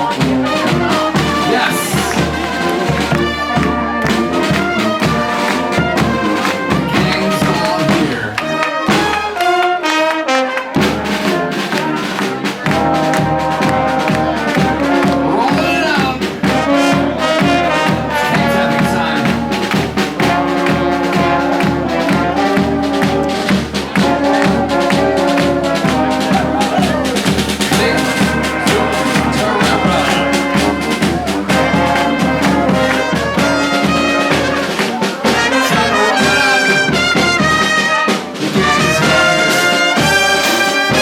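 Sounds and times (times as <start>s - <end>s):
brass band playing upbeat tune: 0.0s - 41.0s.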